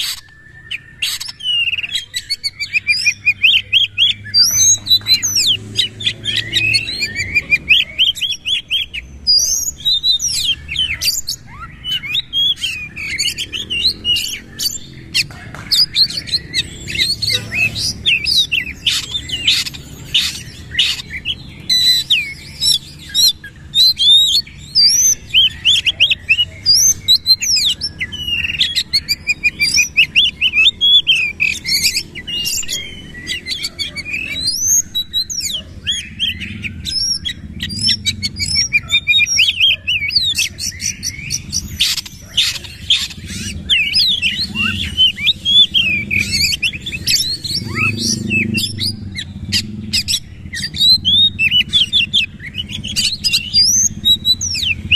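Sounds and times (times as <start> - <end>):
magpie-robin singing: 0.0 - 54.9.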